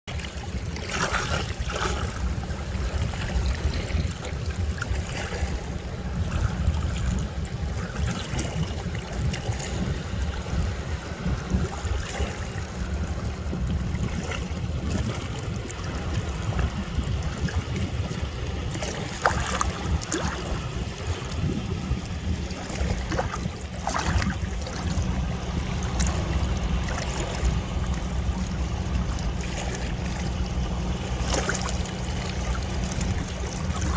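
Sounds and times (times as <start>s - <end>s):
steady low rumble: 0.1s - 33.9s
waves washing on shore: 0.1s - 33.9s.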